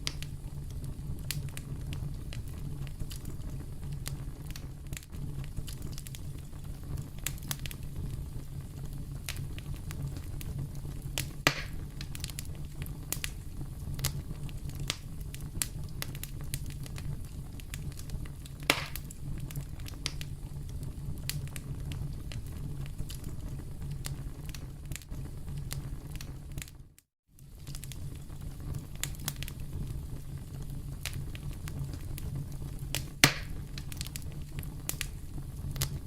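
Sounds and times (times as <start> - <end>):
campfire rumbling: 0.0 - 36.0
fire crackling and popping: 0.0 - 36.0.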